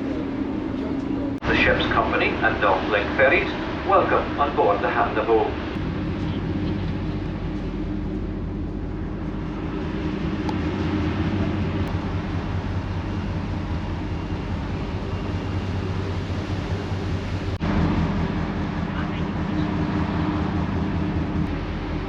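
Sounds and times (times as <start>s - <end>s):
ferry diesel engine drone: 0.0s - 22.0s.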